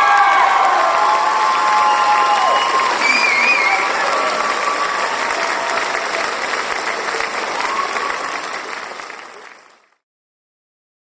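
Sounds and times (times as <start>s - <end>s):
crowd applauding and cheering: 0.0s - 10.0s.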